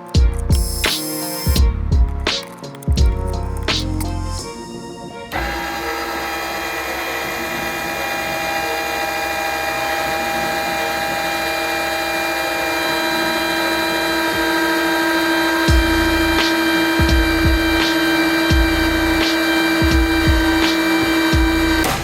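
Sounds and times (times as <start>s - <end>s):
electric motor whining: 0.1s - 1.6s, 5.3s - 22.0s.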